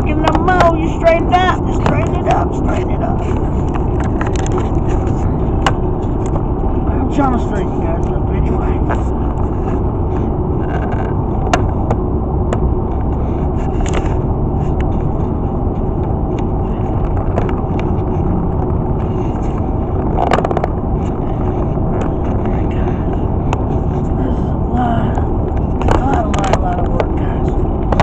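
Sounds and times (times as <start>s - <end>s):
car road and tyre noise: 0.0s - 28.0s.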